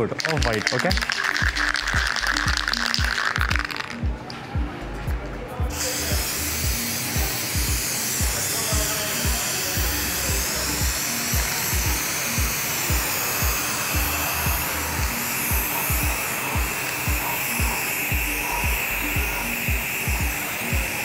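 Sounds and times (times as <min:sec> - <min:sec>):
aerosol spray can hissing: 0:00.0 - 0:04.0, 0:05.7 - 0:21.0
background music with steady beat: 0:00.0 - 0:21.0.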